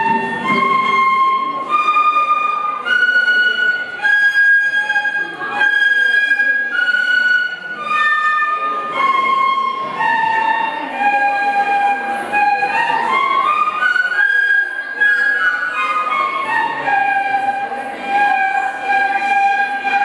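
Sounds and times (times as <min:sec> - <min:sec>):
bamboo flutes playing slow melody: 0:00.0 - 0:20.0.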